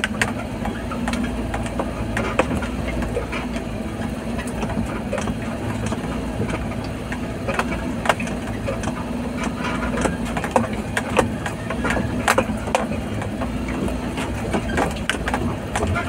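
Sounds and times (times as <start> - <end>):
vehicle knocks and rattles: 0.0 - 16.0.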